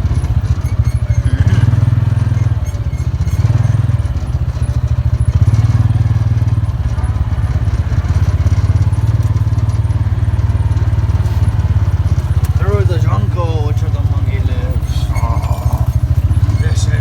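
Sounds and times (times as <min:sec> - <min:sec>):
engine throbbing: 0:00.0 - 0:17.0.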